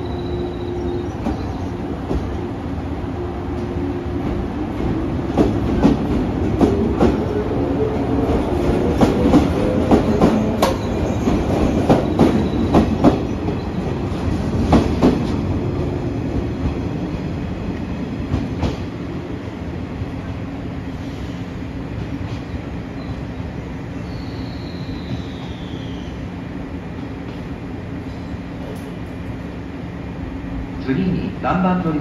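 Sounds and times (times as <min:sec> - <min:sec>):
train running noise: 0:00.0 - 0:32.0.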